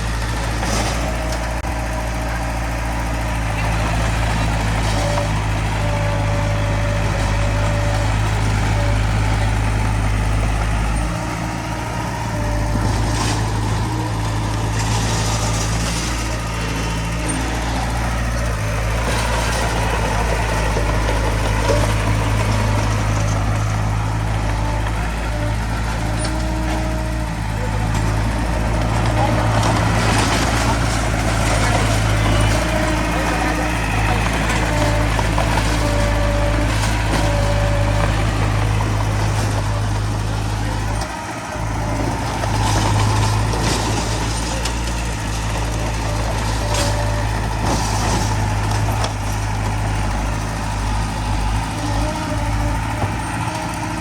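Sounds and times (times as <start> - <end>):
diesel earthmoving machinery droning: 0.0 - 54.0.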